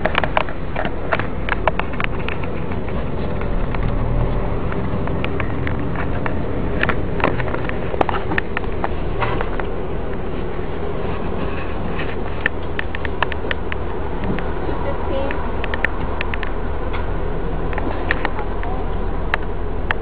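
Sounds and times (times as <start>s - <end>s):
car engine and road hum: 0.0s - 20.0s.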